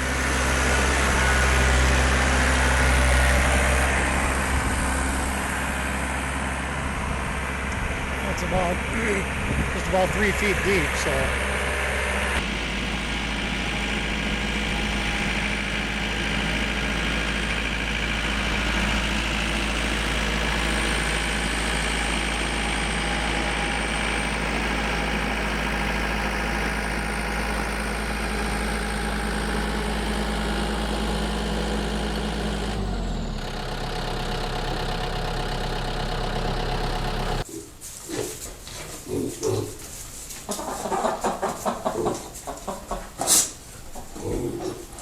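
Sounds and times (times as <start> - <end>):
tractor diesel engine running: 0.0 - 37.5.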